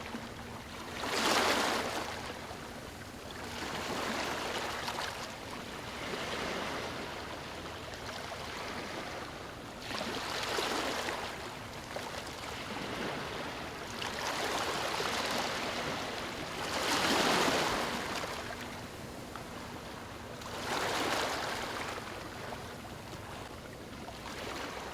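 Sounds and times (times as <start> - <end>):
sea waves breaking: 0.0 - 24.9.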